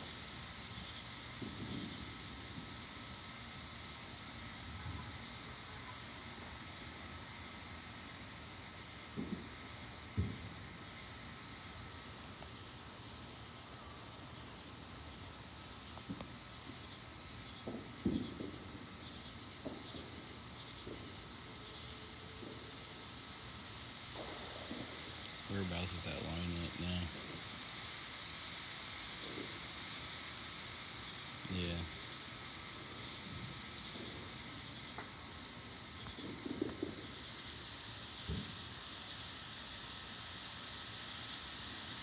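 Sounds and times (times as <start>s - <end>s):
night insects trilling: 0.0s - 42.0s.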